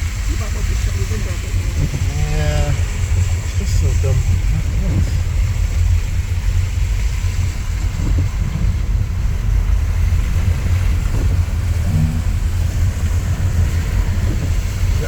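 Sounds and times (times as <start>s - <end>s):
car engine and tyre rumble: 0.0s - 15.0s
water hiss from wet road: 0.0s - 15.0s.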